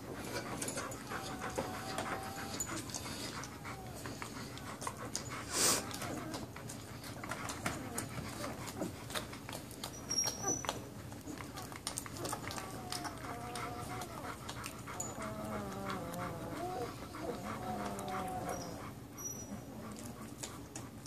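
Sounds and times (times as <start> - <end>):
dog panting: 0.0 - 21.0
puppies clicking and rustling: 0.0 - 21.0.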